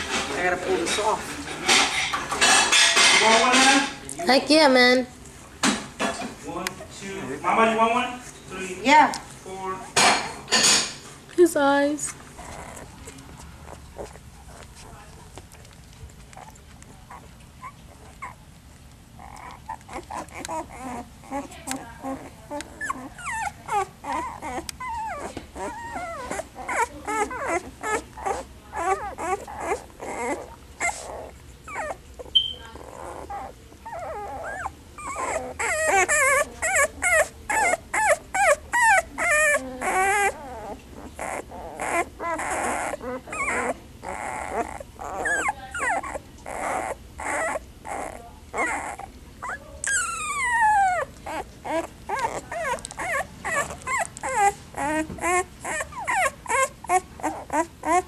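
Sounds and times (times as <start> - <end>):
puppies whimpering and squeaking: 0.0 - 5.1, 6.0 - 58.0.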